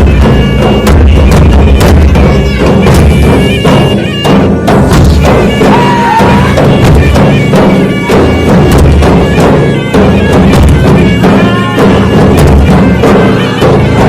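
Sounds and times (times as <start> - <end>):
drums beaten hard and fast: 0.0 - 14.0
shrill reedy wind instrument melody: 0.0 - 14.0.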